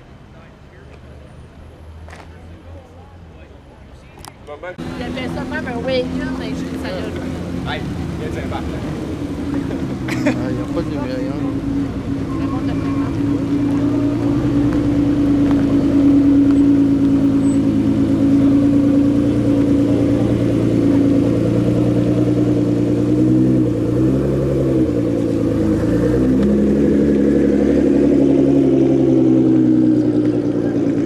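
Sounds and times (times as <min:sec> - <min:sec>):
car engine droning: 0:00.0 - 0:31.0.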